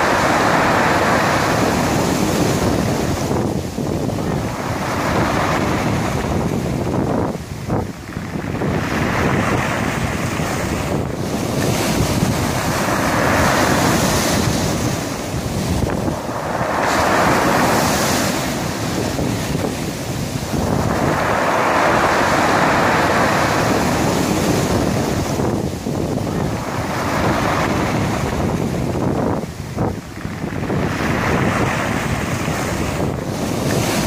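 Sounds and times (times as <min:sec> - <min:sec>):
waves washing over pebbles: 0:00.0 - 0:34.0.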